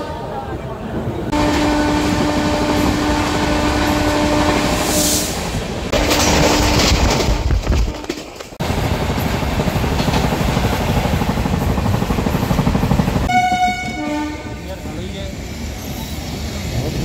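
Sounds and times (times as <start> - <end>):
train rumble and rattle: 0.0 - 17.0.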